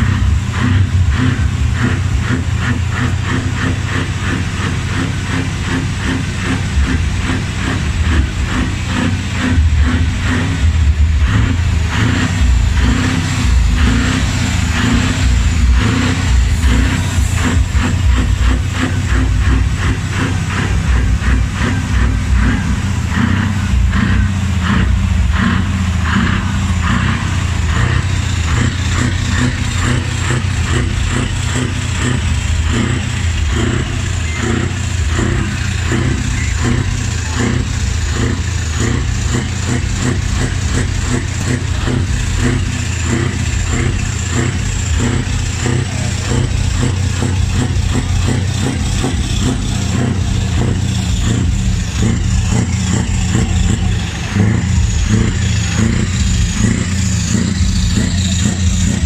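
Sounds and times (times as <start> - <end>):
heavy truck engines rumbling: 0.0 - 59.0.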